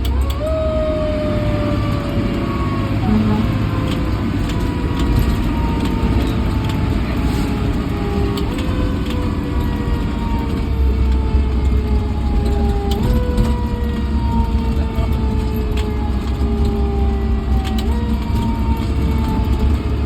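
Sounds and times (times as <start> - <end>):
fire truck engine rumble: 0.0 - 20.0
siren whine sliding down: 0.1 - 20.0.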